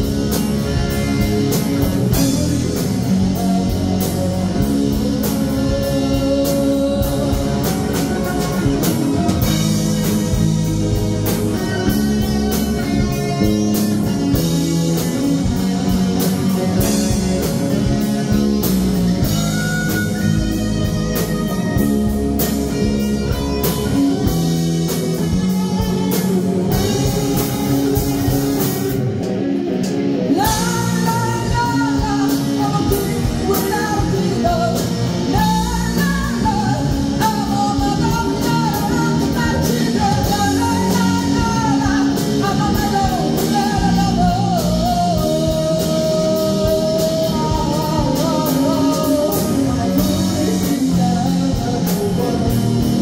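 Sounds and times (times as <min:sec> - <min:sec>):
bass guitar: 0:00.0 - 0:53.0
distorted electric guitars: 0:00.0 - 0:53.0
drum kit: 0:00.0 - 0:53.0.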